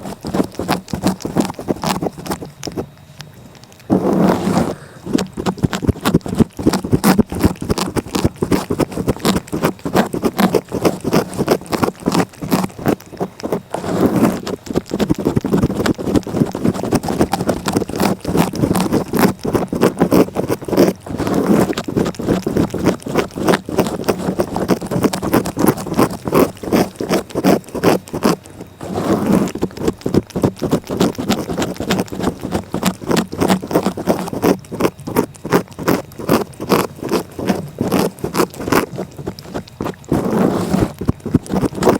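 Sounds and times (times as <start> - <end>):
cat licking: 0.0 - 41.9.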